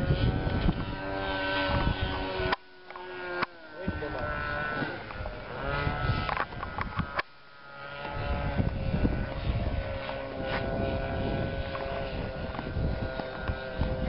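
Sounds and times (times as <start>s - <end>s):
model plane engine droning: 0.0s - 14.0s.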